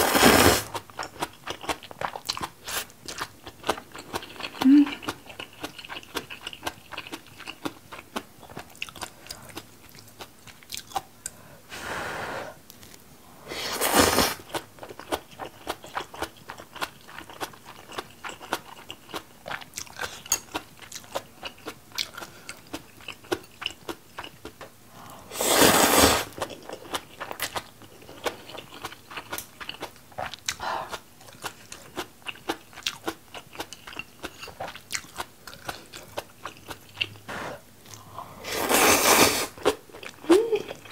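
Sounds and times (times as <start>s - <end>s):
chewing crunchy food: 0.6s - 11.4s, 14.3s - 25.2s, 26.2s - 40.9s.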